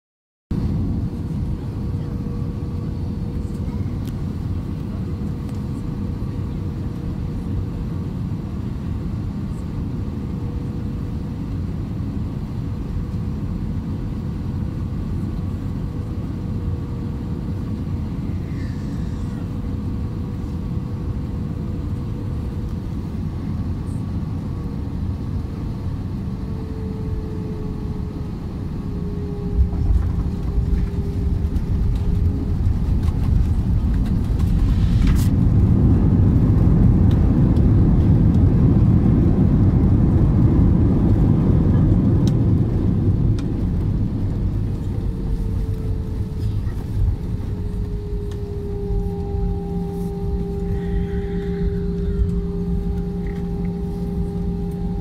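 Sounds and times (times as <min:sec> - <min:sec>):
aircraft cabin rumble: 0:00.5 - 0:55.0
jet engine whine: 0:00.5 - 0:55.0.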